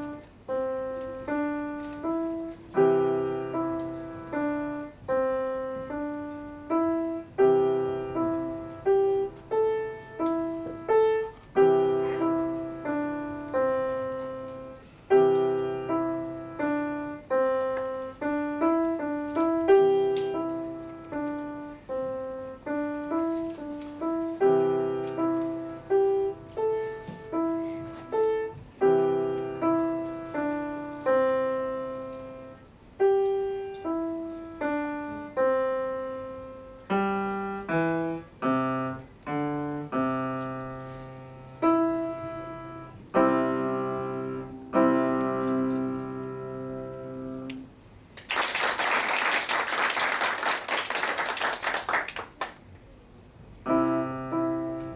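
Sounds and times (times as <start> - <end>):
solo piano piece: 0.0 - 48.2, 52.6 - 54.9.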